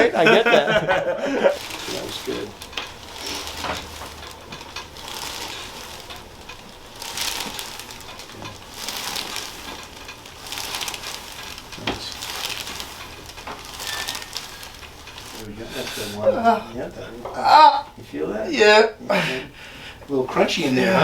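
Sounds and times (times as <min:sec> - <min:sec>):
clothing rustling on treatment table: 0:00.0 - 0:21.0.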